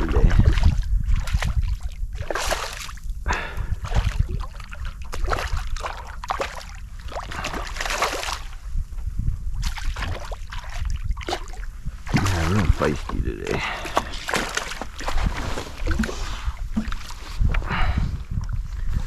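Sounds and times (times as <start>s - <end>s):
steady low rumble: 0.0s - 14.2s, 14.8s - 19.0s
water splashing and sloshing: 0.0s - 19.0s.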